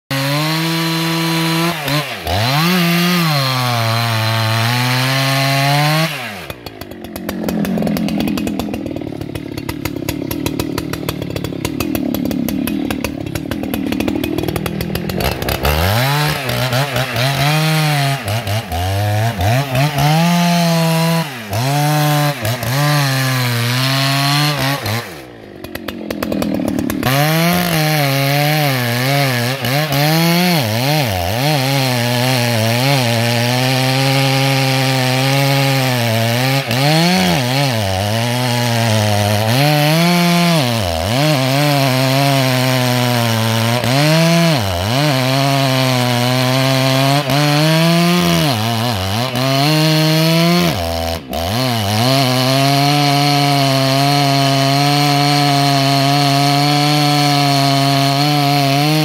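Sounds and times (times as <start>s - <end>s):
chainsaw cutting wood: 0.1s - 59.0s
chainsaw idling: 0.1s - 59.0s.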